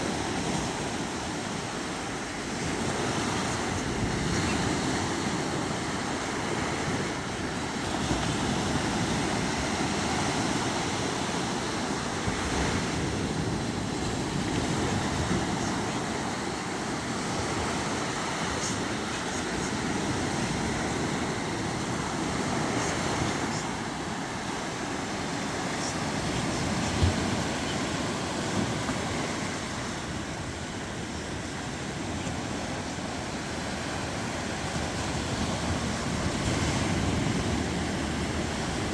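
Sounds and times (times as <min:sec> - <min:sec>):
sea surf washing: 0:00.0 - 0:38.9
wind on microphone: 0:00.0 - 0:38.9.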